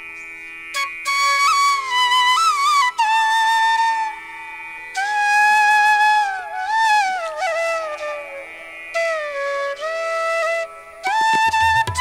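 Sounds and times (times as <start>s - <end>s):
faint steady drone: 0.0s - 11.6s
solo flute melody: 0.7s - 12.0s.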